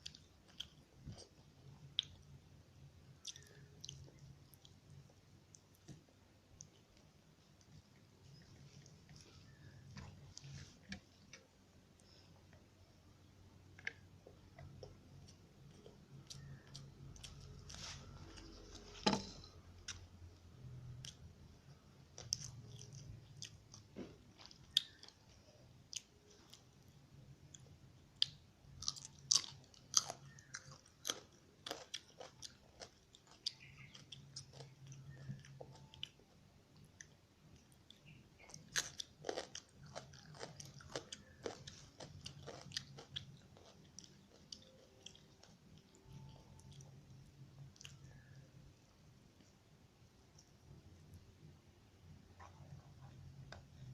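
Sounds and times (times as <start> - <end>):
person chewing and crunching food: 0.0 - 12.8, 13.6 - 48.5.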